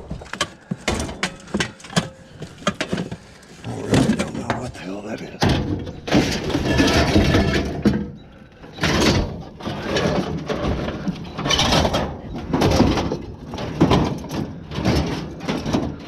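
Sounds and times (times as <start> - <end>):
objects knocking and scraping: 0.0 - 16.0.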